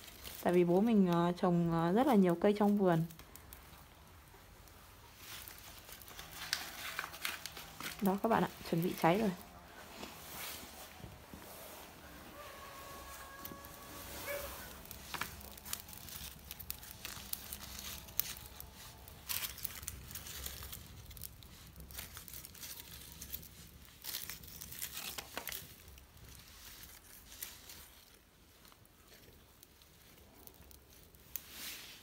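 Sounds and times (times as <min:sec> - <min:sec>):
twigs and leaves rustling: 0:00.0 - 0:32.0
wood fire crackling: 0:00.0 - 0:32.0.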